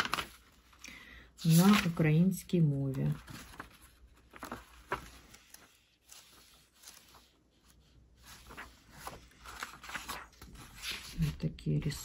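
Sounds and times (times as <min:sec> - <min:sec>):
book pages turning: 0:00.0 - 0:00.8, 0:01.4 - 0:11.9.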